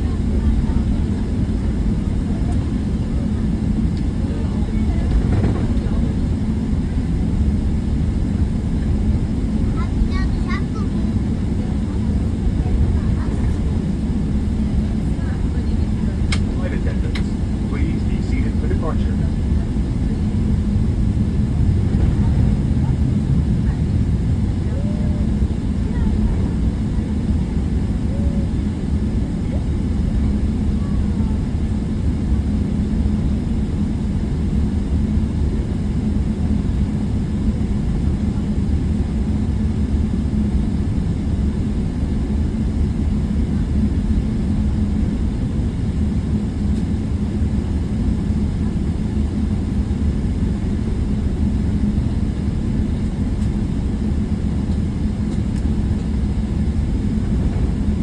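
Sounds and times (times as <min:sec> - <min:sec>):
jet engines rumbling in cabin: 0:00.0 - 0:58.0.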